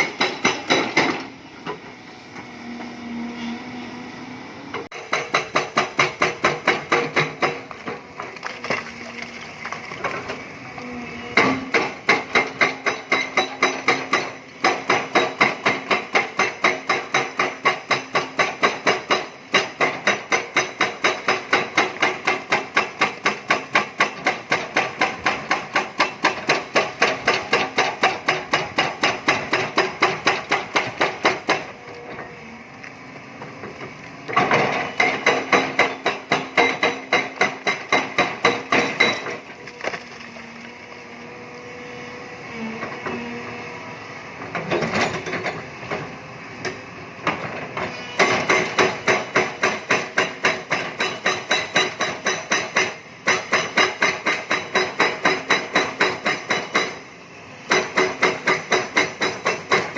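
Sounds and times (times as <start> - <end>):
hydraulic breaker hammering rock: 0.0 - 1.8, 4.8 - 8.9, 11.2 - 32.3, 34.3 - 39.8, 44.4 - 59.9.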